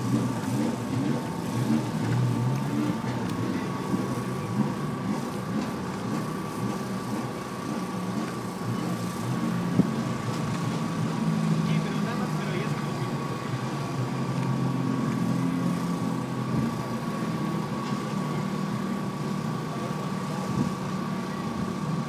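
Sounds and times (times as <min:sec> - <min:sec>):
race car engines humming: 0:00.0 - 0:22.0.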